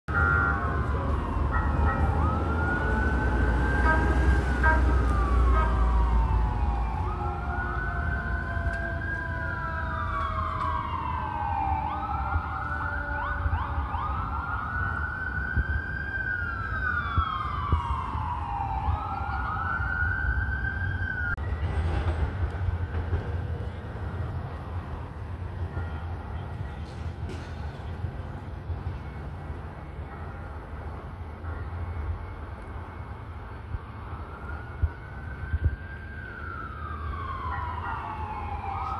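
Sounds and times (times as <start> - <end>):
emergency siren wailing: 0.1 - 23.5, 28.0 - 38.9
street traffic noise: 0.1 - 38.9.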